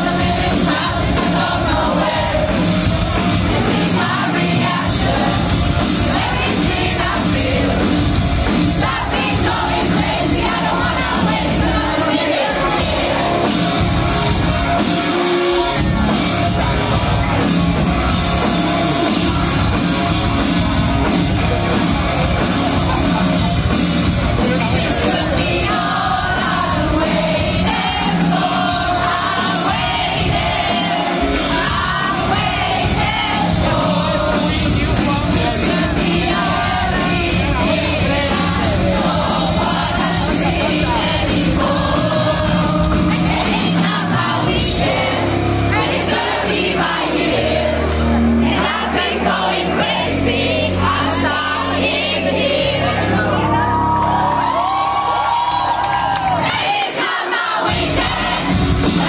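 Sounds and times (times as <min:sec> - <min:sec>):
crowd singing along: 0:00.0 - 0:59.0
live pop-punk band playing: 0:00.0 - 0:59.0.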